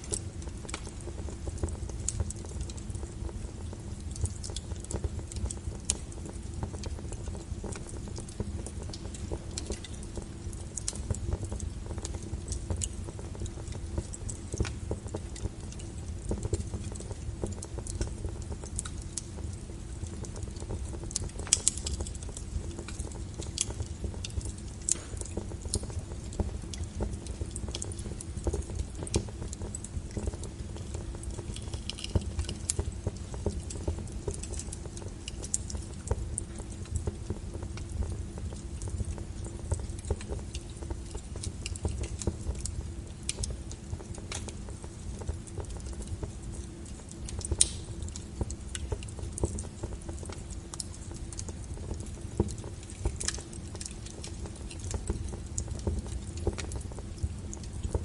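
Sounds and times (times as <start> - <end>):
logs crackling and popping: 0.0 - 58.0
low steady rumble: 0.0 - 58.0.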